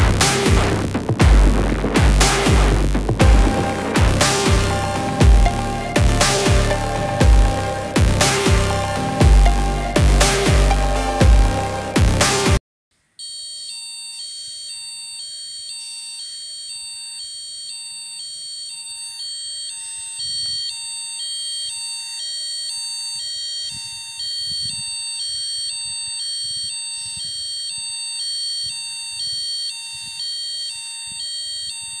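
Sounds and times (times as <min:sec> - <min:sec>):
buzzer two-tone alarm: 0:00.0 - 0:12.5, 0:13.2 - 0:32.0.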